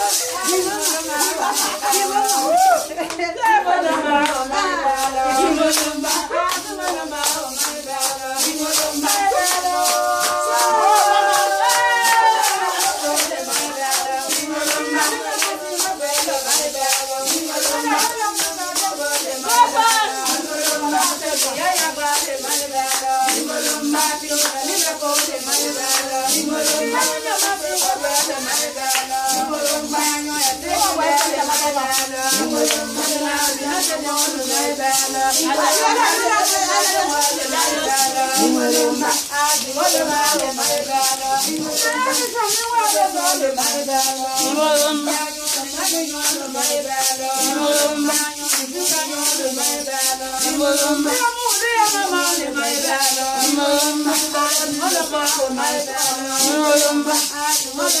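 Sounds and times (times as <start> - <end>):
fast rattling beat: 0.0 - 58.0
voices singing: 0.0 - 58.0.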